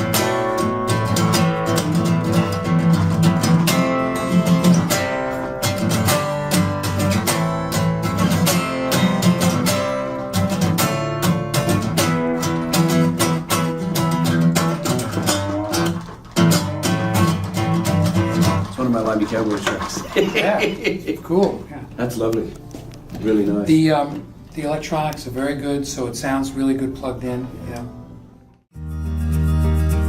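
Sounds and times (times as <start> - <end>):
acoustic-electric guitar playing: 0.0 - 30.0.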